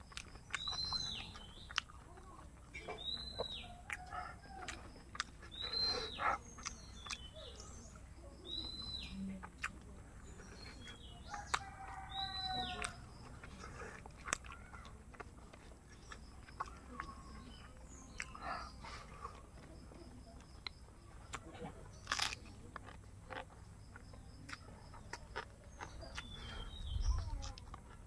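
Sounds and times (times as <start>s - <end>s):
faint clicks of eating: 0.0s - 28.0s.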